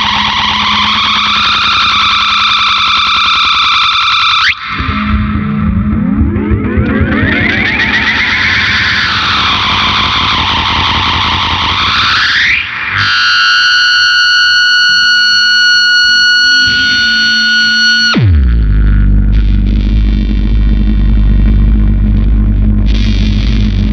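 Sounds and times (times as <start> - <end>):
electric guitar effect sounds: 0.0 - 23.9.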